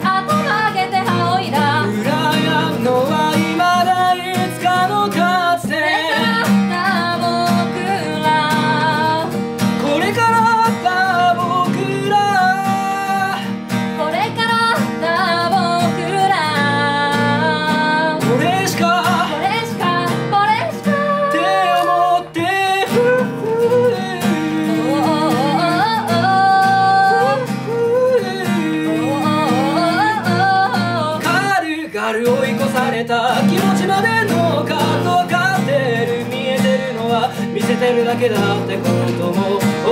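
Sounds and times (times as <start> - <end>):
acoustic guitar: 0.0 - 39.9
man singing: 0.0 - 39.9.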